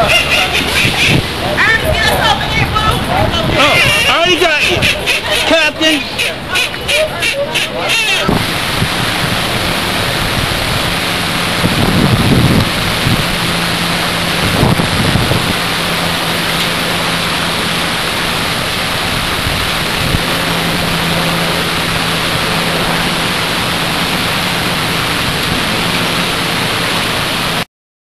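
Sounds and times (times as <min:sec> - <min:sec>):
boat engine running: 0:00.0 - 0:27.7
water noise: 0:00.0 - 0:27.7
wind: 0:00.0 - 0:27.7.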